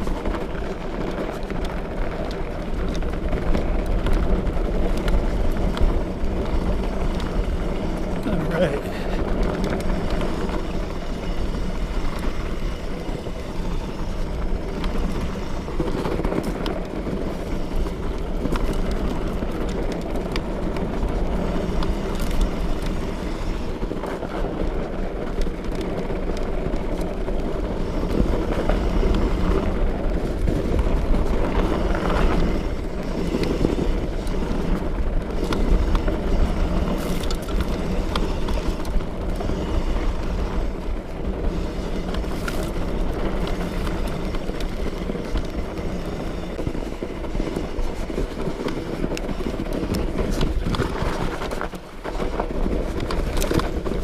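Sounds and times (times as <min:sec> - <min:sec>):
bike clicks and rattles: 0:00.0 - 0:54.0
tyres rumbling on trail: 0:00.0 - 0:54.0.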